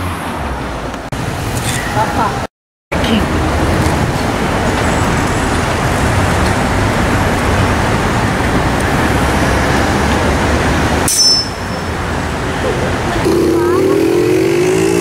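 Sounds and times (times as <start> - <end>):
cars and motorcycles passing: 0.0 - 15.0.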